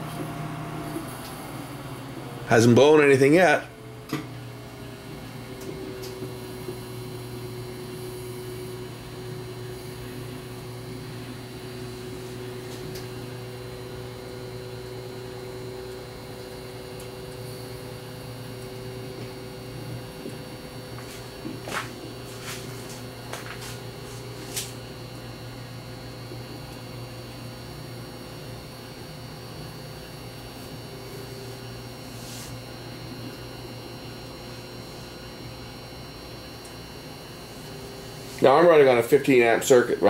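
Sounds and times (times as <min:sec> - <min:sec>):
microwave oven humming: 0:00.0 - 0:40.0.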